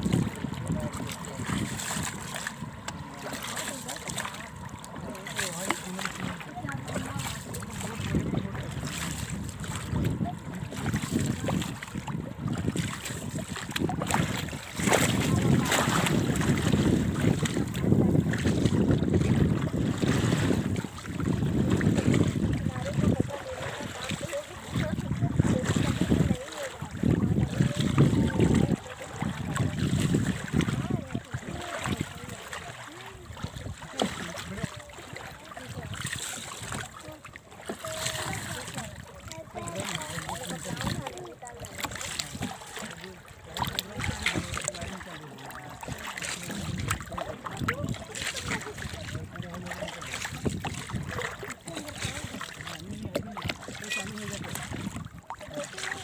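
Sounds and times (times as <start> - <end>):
water sloshing against boat: 0.0 - 56.0
wind buffeting microphone: 0.0 - 56.0.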